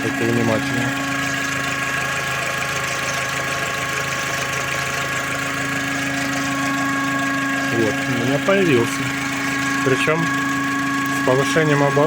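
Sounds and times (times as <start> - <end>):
car engine idling: 0.0 - 12.0
whistling hum under hood: 0.0 - 12.0.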